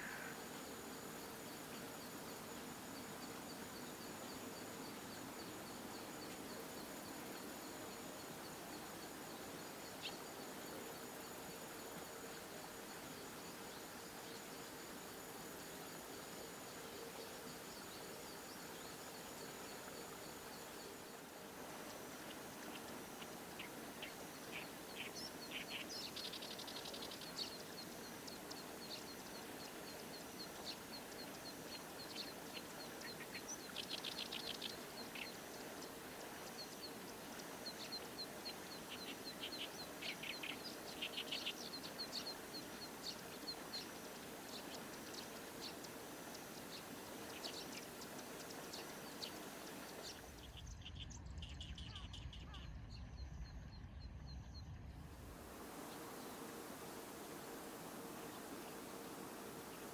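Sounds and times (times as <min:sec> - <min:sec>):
high-pitched insect trill: 0:00.0 - 0:50.3
songbirds chirping: 0:00.0 - 0:59.9.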